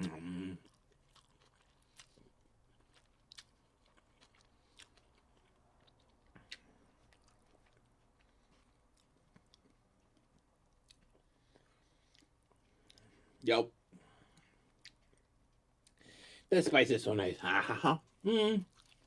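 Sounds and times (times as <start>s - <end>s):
chewing food: 0.0s - 13.4s, 14.0s - 16.2s, 17.6s - 19.0s.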